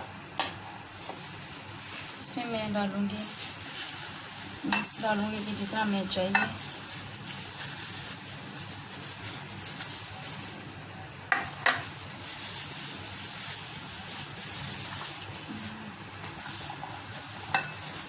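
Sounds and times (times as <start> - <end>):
plastic glove rustling: 0.6 - 10.7, 11.4 - 18.0.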